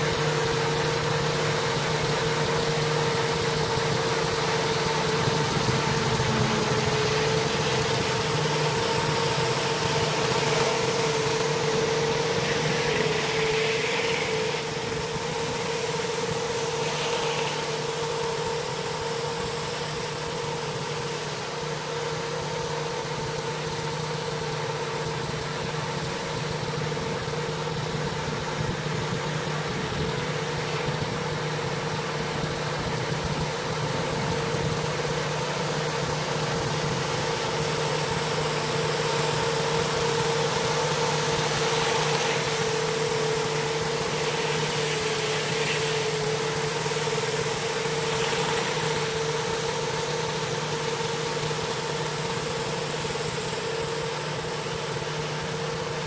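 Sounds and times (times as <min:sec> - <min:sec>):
pressure washer engine running: 0:00.0 - 0:56.0
water spraying on concrete: 0:00.0 - 0:56.0.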